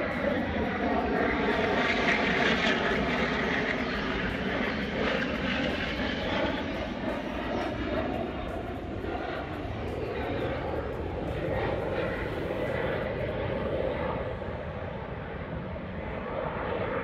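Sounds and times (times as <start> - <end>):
aircraft flying overhead: 0.0 - 17.0.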